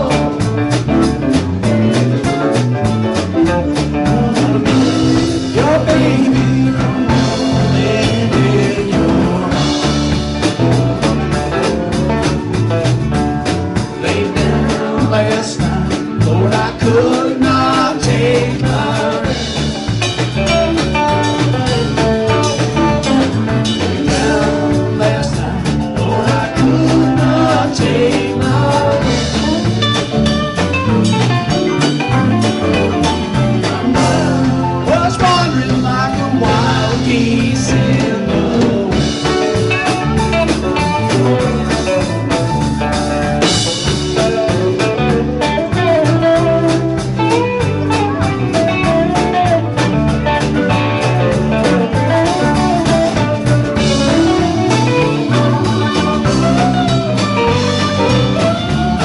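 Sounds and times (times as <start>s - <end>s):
bass guitar: 0.0s - 59.0s
drum kit steady beat: 0.0s - 59.0s
electric guitars: 0.0s - 59.0s.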